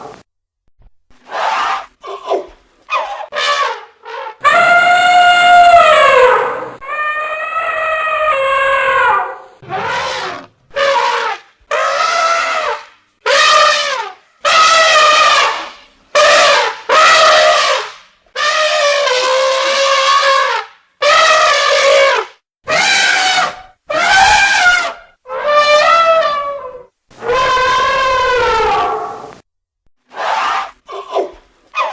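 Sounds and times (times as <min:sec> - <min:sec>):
elephant trumpeting: 0:01.3 - 0:29.2.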